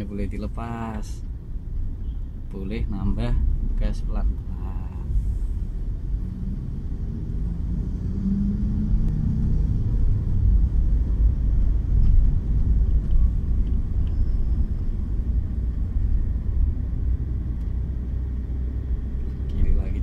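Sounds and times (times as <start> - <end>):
car engine rumble inside cabin: 0.0 - 20.0.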